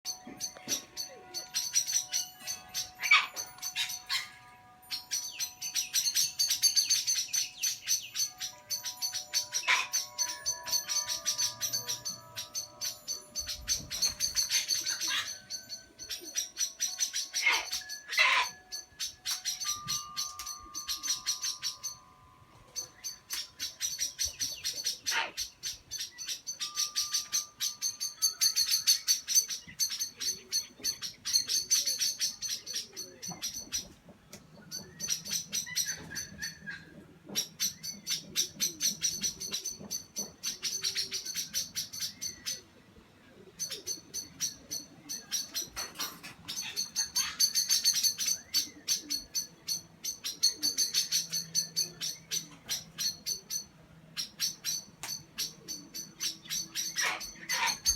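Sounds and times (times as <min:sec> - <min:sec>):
birds chattering: 0:00.1 - 0:57.9.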